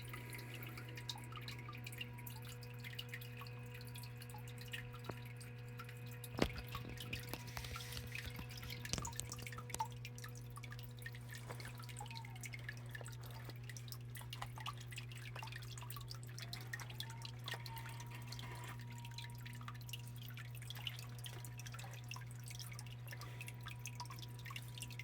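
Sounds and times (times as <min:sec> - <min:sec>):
steady low hum: 0:00.0 - 0:25.0
water dripping and trickling onto stone: 0:00.1 - 0:25.0.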